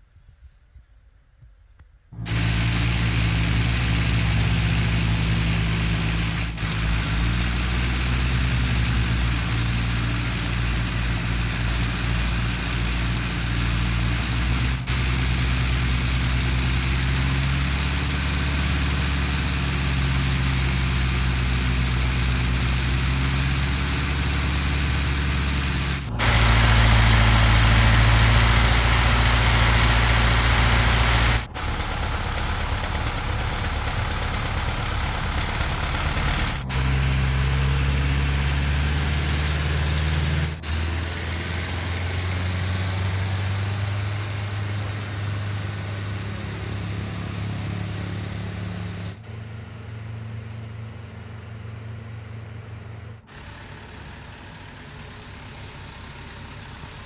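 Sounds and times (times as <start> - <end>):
construction machinery diesel engine: 2.2 - 57.0.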